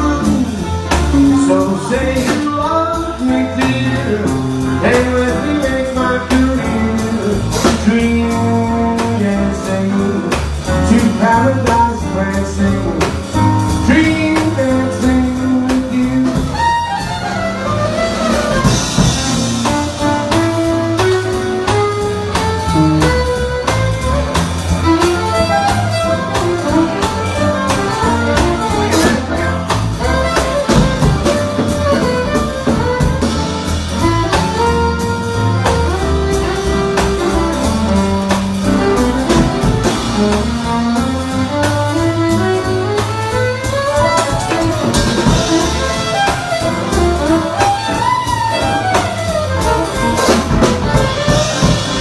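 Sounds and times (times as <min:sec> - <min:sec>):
instrumental jazz music: 0:00.0 - 0:52.0.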